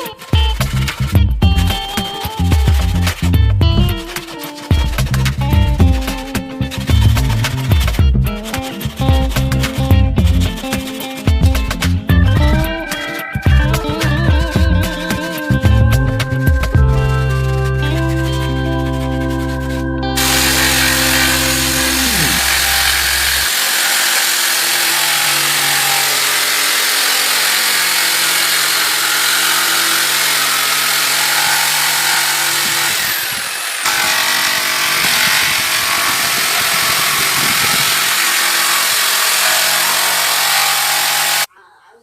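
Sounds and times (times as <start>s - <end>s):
power tool cutting wood: 0.0s - 41.5s.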